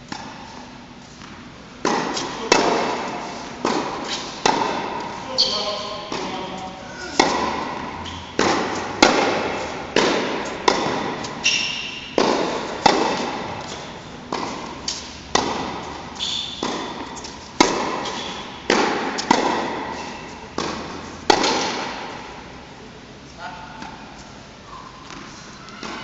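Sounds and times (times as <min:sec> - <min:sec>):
tennis balls struck by rackets: 0:00.1 - 0:00.6, 0:01.2 - 0:22.6, 0:25.1 - 0:26.0
tennis balls bouncing on court: 0:00.1 - 0:22.5, 0:25.0 - 0:26.0.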